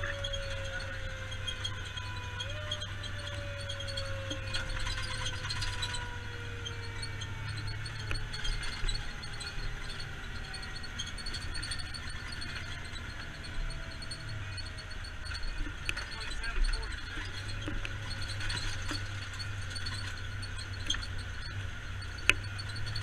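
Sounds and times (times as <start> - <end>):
engine and road rumble: 0.0 - 23.0
light rattling: 0.0 - 23.0.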